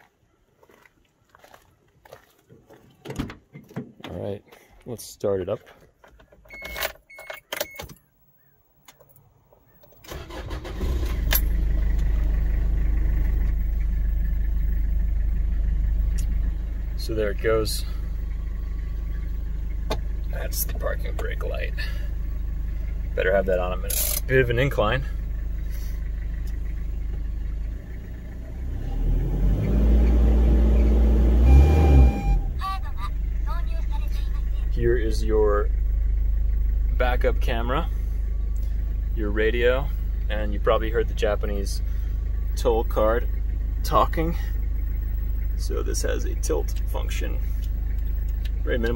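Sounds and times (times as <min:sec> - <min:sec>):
diesel engine cranking and idling: 0:08.8 - 0:48.9.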